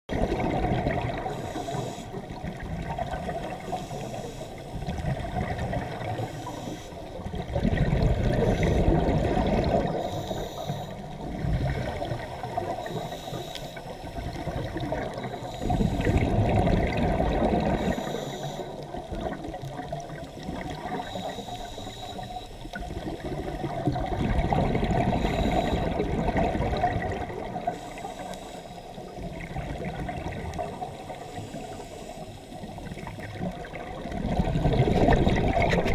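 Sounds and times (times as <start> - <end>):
underwater exhaled bubbles rushing: 0.1 - 35.9.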